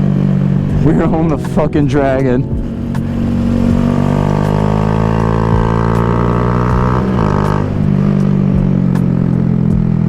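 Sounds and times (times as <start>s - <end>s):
motorcycle engine pulling: 0.0s - 9.3s.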